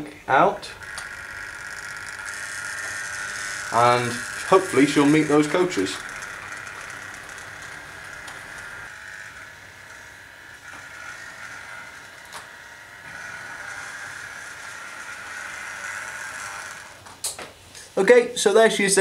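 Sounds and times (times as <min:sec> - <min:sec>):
model train motor whirring: 0:00.5 - 0:18.0.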